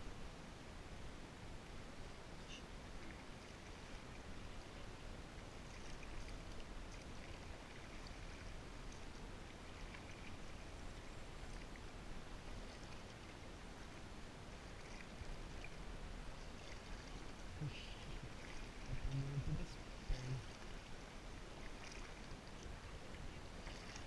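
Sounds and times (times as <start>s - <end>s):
water washing around kayak: 2.4s - 24.0s
paddle splashes and drips: 2.8s - 24.0s.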